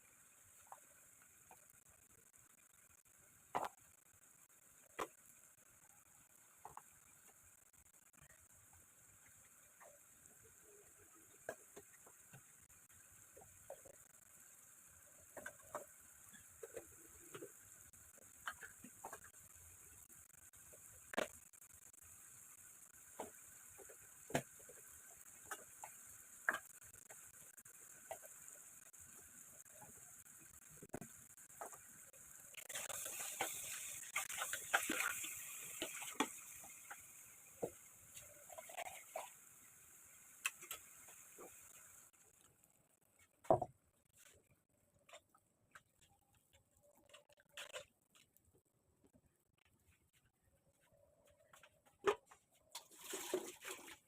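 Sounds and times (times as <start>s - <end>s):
steady hiss: 0.0s - 43.4s.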